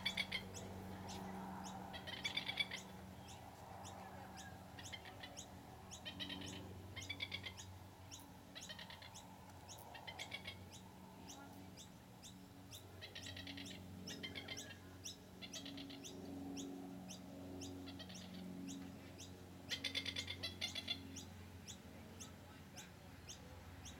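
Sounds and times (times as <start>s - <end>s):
birds calling in rattling bursts: 0.0s - 23.9s
steady low hum: 0.0s - 23.9s.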